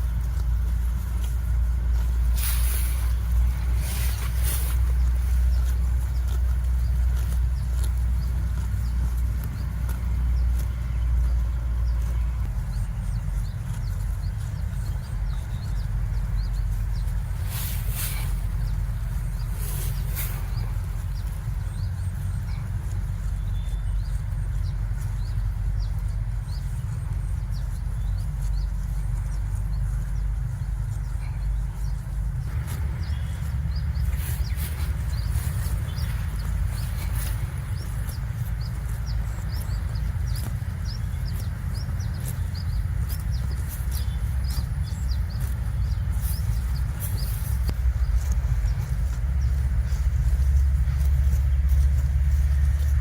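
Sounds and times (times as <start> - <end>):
low wind rumble: 0.0 - 53.0
small birds chirping: 0.0 - 53.0.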